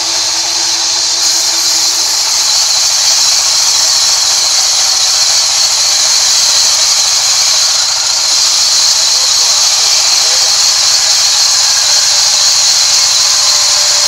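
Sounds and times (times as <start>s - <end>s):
band saw cutting wood: 0.0s - 14.0s.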